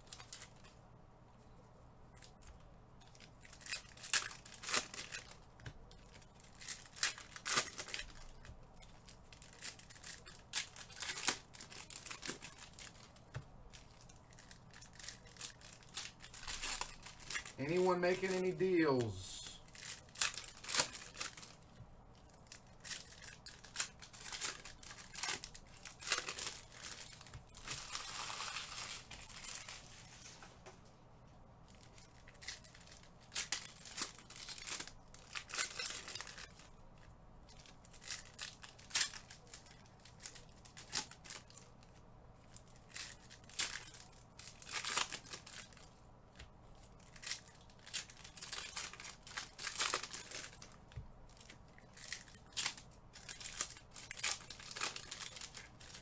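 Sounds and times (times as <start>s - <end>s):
plastic wrapping crinkling: 2.1s - 30.7s, 31.6s - 56.0s
plastic tearing rustle: 2.2s - 30.6s, 31.6s - 56.0s.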